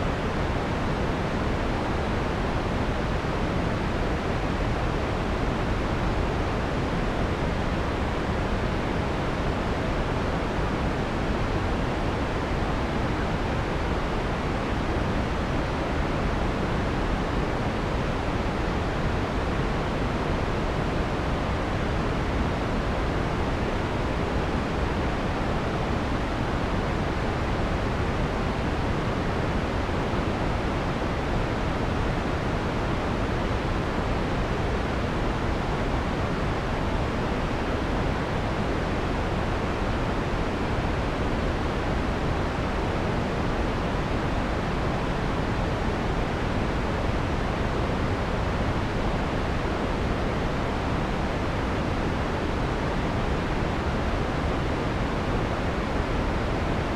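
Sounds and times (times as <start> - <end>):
soft white noise: 0.0 - 56.9.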